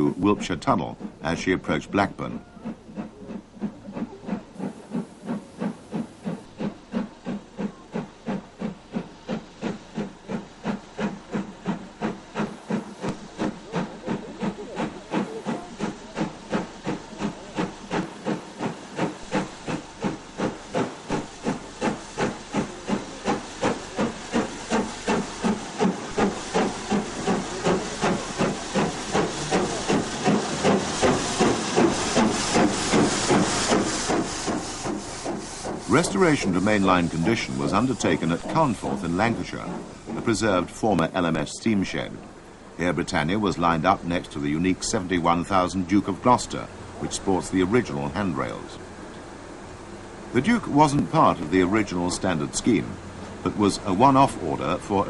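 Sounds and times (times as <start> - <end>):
steam hiss: 0.0 - 55.0
steam locomotive chuffing: 0.0 - 55.0.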